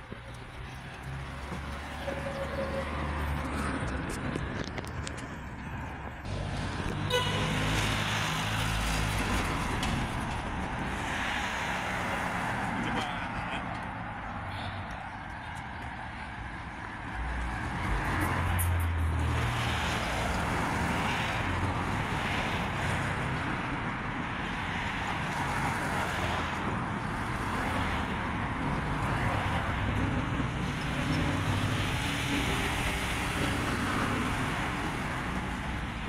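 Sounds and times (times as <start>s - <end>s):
vehicles driving past: 0.0s - 36.0s.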